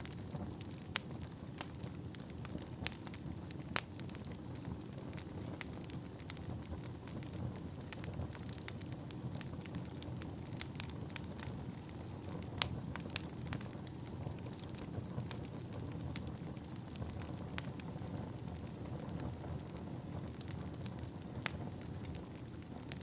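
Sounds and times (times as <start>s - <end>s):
fire crackling and popping: 0.0s - 23.0s
fire flames rushing: 0.0s - 23.0s.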